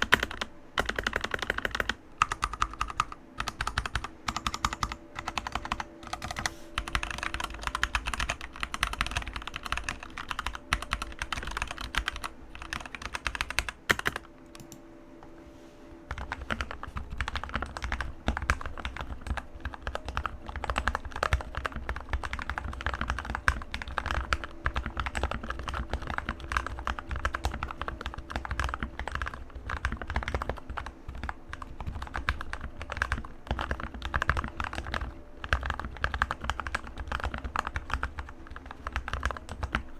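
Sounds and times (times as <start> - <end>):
mechanical keyboard typing: 0.0 - 14.8, 16.1 - 39.9.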